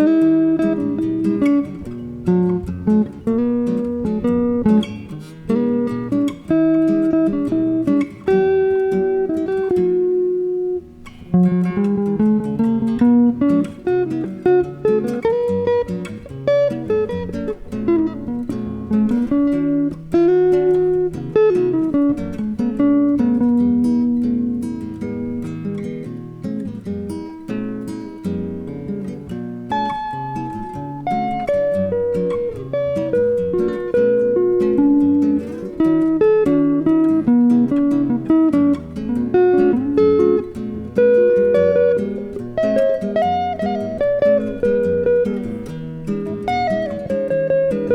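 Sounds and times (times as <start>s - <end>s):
acoustic and electric guitar duo: 0.0s - 47.9s.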